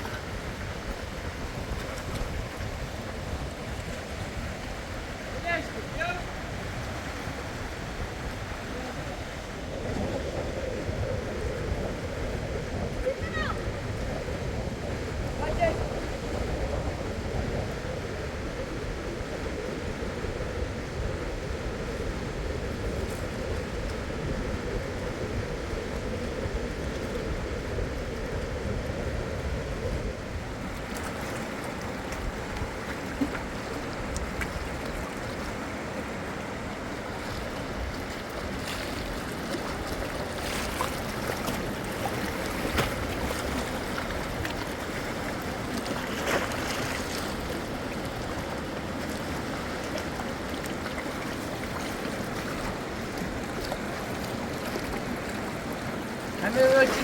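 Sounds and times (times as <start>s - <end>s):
fast-flowing river water: 0.0s - 57.0s.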